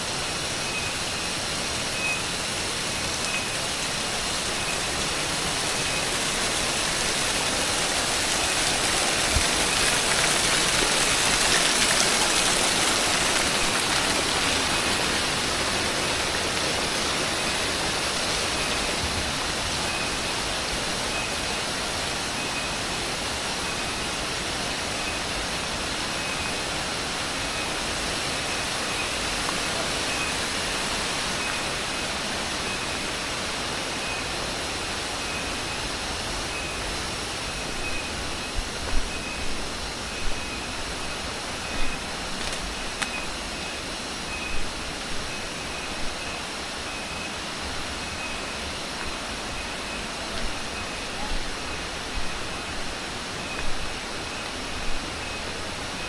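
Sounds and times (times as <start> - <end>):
high pulsing insect call: 0.0 - 56.0
waterfall rushing: 0.0 - 56.0.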